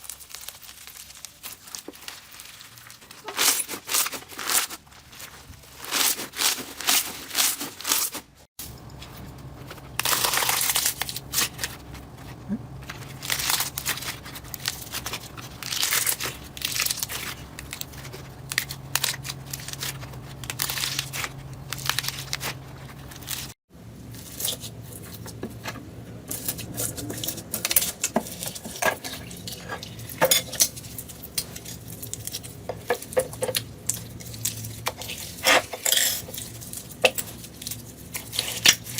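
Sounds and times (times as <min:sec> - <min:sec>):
slime squishing and crackling: 0:00.0 - 0:25.4, 0:26.3 - 0:38.9.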